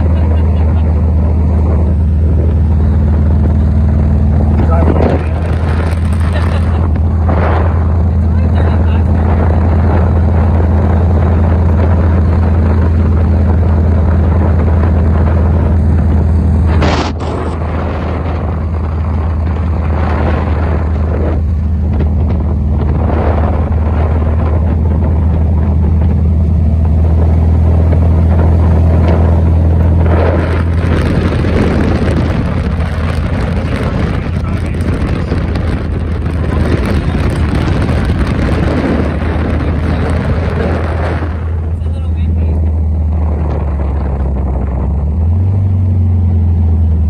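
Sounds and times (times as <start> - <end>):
car engine running: 0.0 - 47.0
road and wind noise: 0.0 - 47.0.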